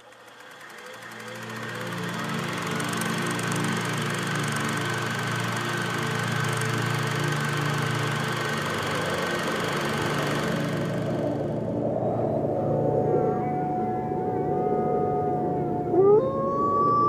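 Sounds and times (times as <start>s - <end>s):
low fluttering mechanical hum: 0.0s - 17.0s.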